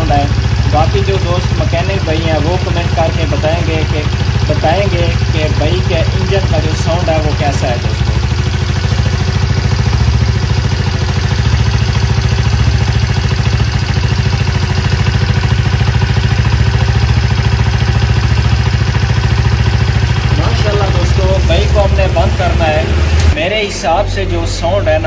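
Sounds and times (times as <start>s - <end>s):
motorcycle engine idling: 0.0s - 23.5s.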